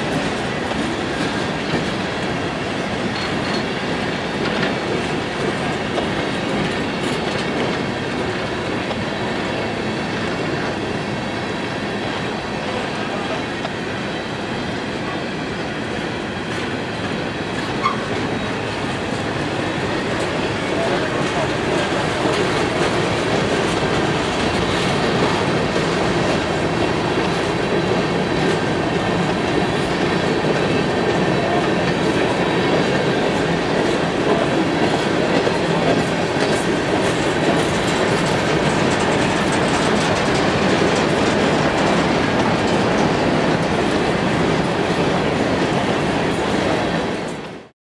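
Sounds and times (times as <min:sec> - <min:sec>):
train wheels rumbling on rails: 0:00.0 - 0:47.7.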